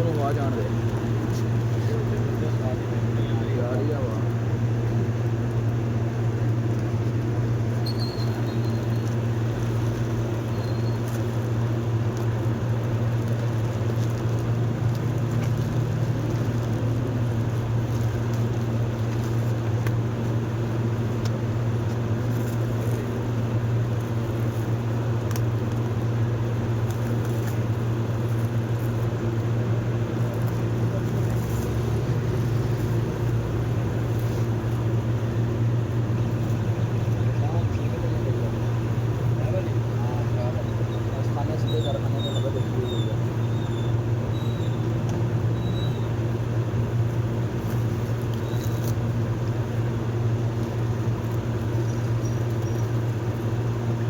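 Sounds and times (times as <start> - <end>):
faint noisy patter: 0.0 - 54.0.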